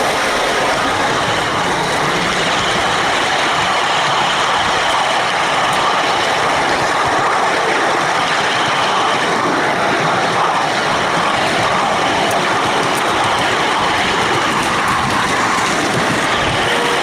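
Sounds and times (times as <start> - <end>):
miniature train wheels on rails: 0.0 - 17.0.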